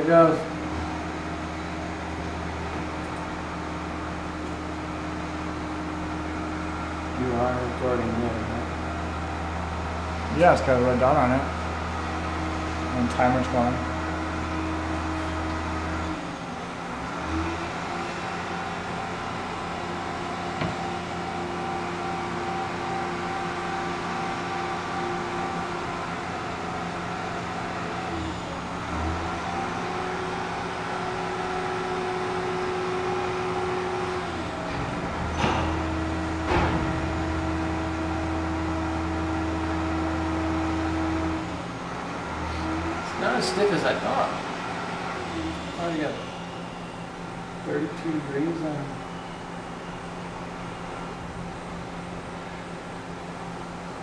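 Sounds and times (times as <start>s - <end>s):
machine hum with held tones: 0.0s - 54.0s.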